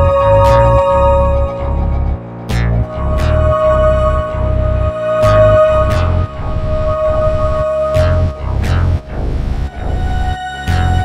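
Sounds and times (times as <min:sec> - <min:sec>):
falling sweep effects: 0:00.0 - 0:11.0
held synth tone: 0:00.0 - 0:11.0
pulsing deep bass line: 0:00.0 - 0:11.0.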